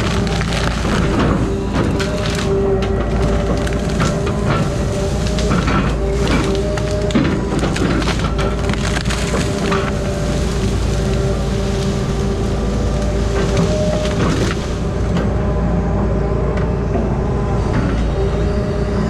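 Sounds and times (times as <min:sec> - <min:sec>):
wood cracking and splintering: 0:00.0 - 0:15.4
machine engine running with whine: 0:00.0 - 0:19.0.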